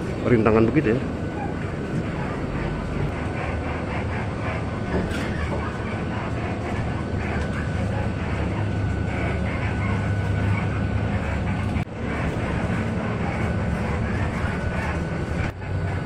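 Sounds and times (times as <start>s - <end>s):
bus engine and tyre drone: 0.0s - 16.0s
suspension rattling and knocking: 0.0s - 16.0s.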